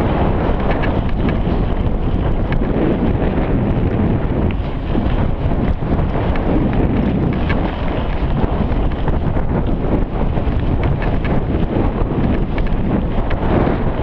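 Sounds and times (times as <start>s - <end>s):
bike knocks and rattles: 0.0s - 14.0s
steady rumble: 0.0s - 14.0s
wind buffeting microphone: 0.0s - 14.0s.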